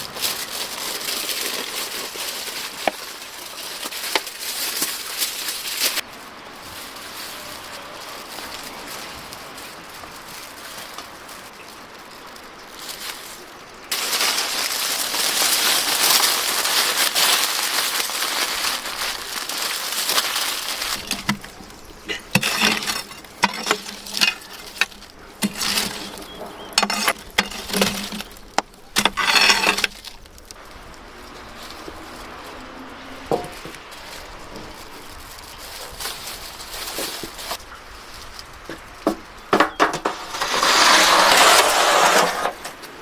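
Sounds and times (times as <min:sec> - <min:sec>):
aluminium foil crinkling: 0:00.0 - 0:43.0.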